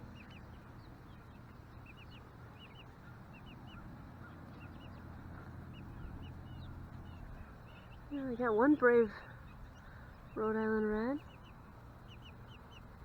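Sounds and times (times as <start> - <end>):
chicks peeping: 0.0 - 13.0
low background rumble: 0.0 - 13.0.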